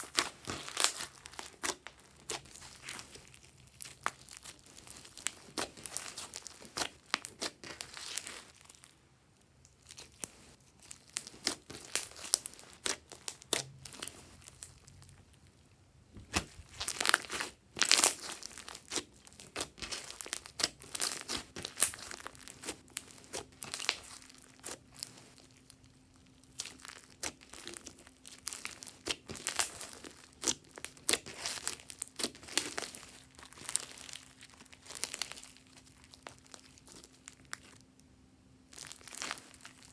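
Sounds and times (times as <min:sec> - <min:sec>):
slime squishing and crackling: 0:00.0 - 0:38.0, 0:38.6 - 0:39.9.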